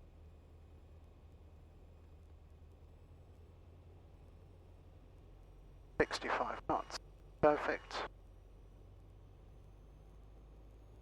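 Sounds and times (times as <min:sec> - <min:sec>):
light aircraft engine hum: 0:00.0 - 0:11.0.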